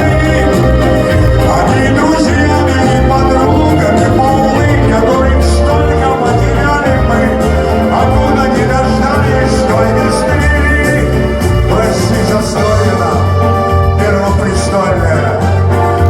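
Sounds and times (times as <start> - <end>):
live band music: 0.0 - 16.0
steady bass line: 0.0 - 16.0.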